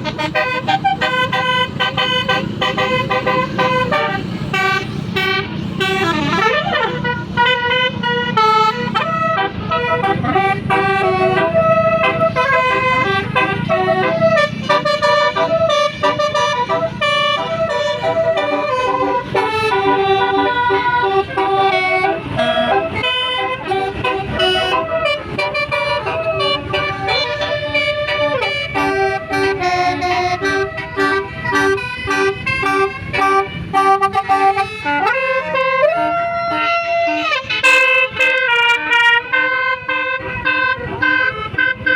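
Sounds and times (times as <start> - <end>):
air horns playing tune: 0.0 - 41.9.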